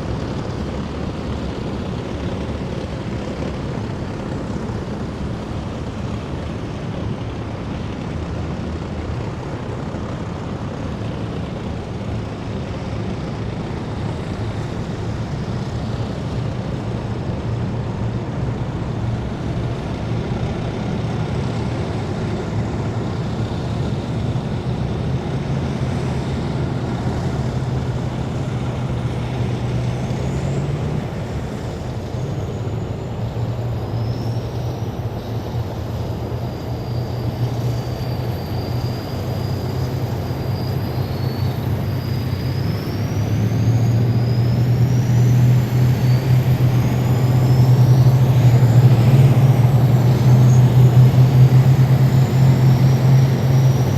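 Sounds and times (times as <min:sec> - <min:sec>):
heavy vehicle engines droning: 0:00.0 - 0:53.9.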